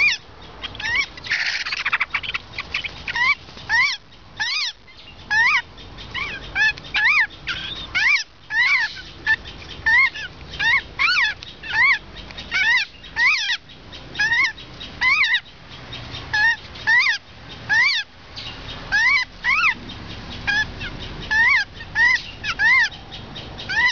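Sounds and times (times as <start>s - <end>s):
birds calling: 0.0s - 23.9s.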